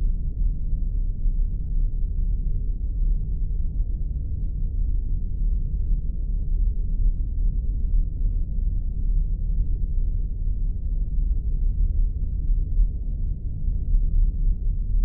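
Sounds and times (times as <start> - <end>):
deep rumbling drone: 0.0 - 15.0
faint steady hum: 0.0 - 15.0.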